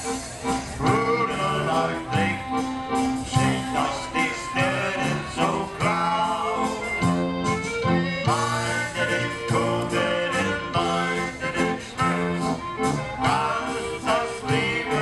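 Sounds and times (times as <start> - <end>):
accordion: 0.0 - 15.0
tuba bass notes: 0.0 - 15.0
man singing: 0.8 - 7.3, 8.3 - 15.0.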